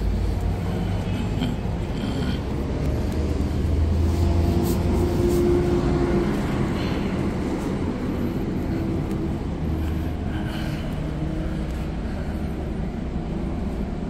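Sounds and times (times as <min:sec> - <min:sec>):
steady hum: 0:00.0 - 0:14.0
traffic rumble: 0:00.0 - 0:14.0.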